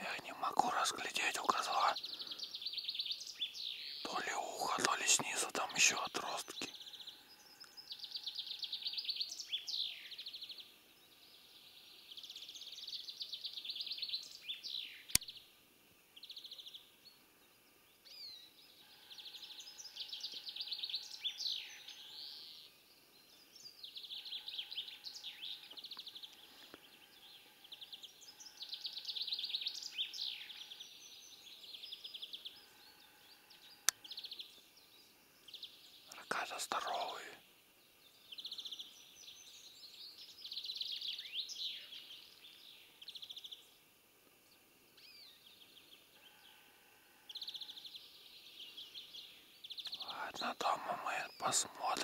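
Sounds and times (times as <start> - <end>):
songbird singing trills: 0.0 - 15.5, 16.1 - 43.9, 44.5 - 46.6, 47.2 - 52.0.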